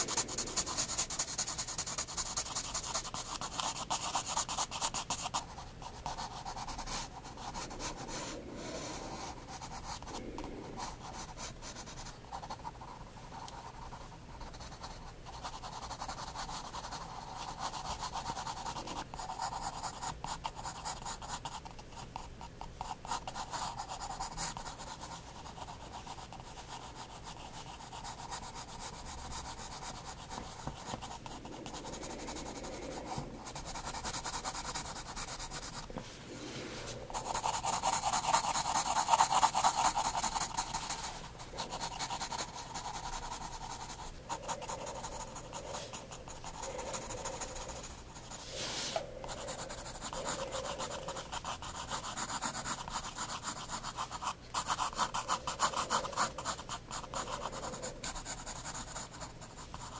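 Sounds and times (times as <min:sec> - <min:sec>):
pencil scratching on paper: 0:00.0 - 0:59.9.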